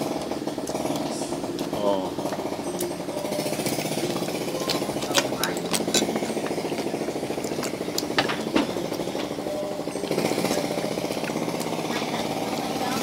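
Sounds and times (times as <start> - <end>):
small engine pulsing: 0.0 - 13.0
utensils clinking on plates: 2.2 - 13.0.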